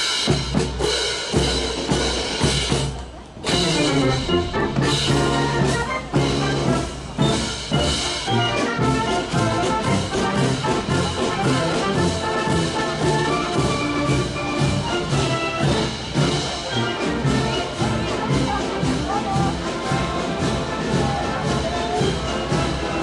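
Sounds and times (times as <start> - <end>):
brass band playing: 0.0 - 23.0
steady drum beat: 0.0 - 23.0.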